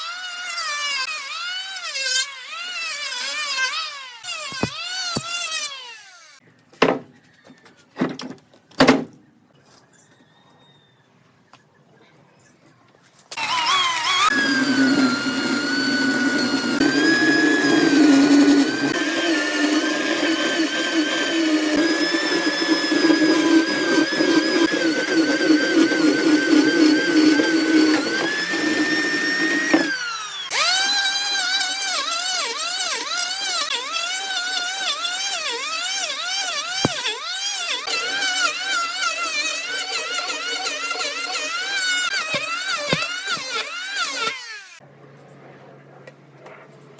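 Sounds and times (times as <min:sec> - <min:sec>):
power tool cutting wood: 0:00.0 - 0:06.4, 0:13.3 - 0:44.8.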